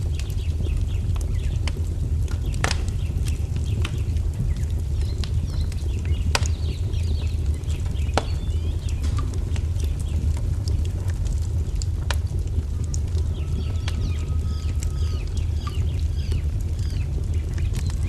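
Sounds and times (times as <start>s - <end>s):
fire popping: 0.0s - 18.0s
songbirds chirping: 0.0s - 18.0s
wood fire rumbling: 0.0s - 18.0s.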